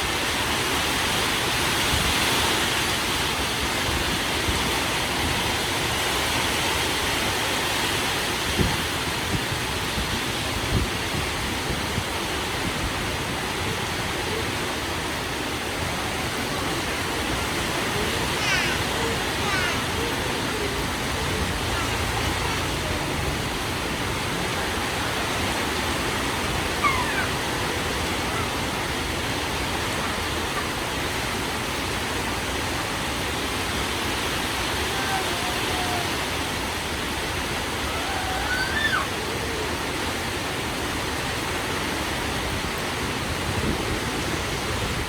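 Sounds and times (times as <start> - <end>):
heavy rain pouring: 0.0 - 45.0
strong wind rumbling: 0.0 - 45.0.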